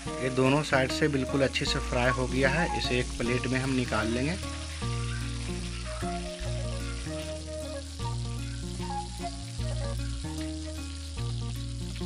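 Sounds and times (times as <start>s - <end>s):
background music low notes: 0.0s - 12.0s
fish frying in oil: 0.0s - 12.0s.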